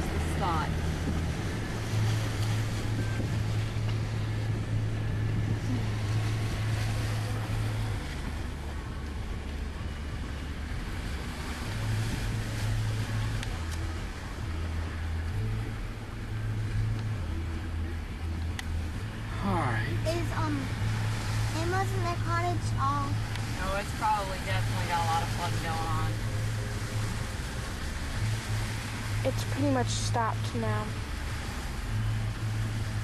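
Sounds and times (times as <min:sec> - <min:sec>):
car engine droning: 0:00.0 - 0:33.0
water washing: 0:00.0 - 0:33.0.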